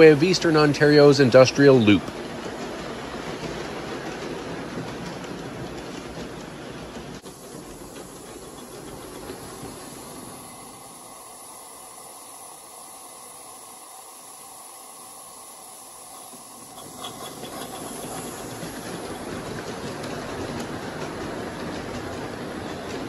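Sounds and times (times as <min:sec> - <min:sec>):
model steam locomotive hissing: 0:00.0 - 0:23.0.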